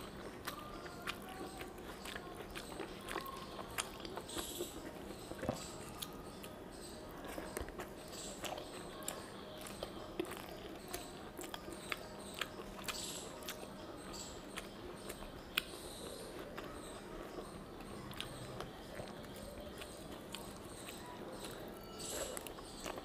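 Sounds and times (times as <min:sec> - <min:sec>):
person chewing: 0:00.0 - 0:23.0.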